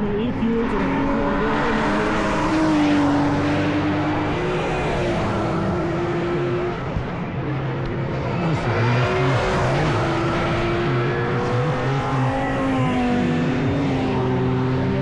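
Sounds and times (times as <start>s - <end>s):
race car engines at speed: 0.0s - 15.0s.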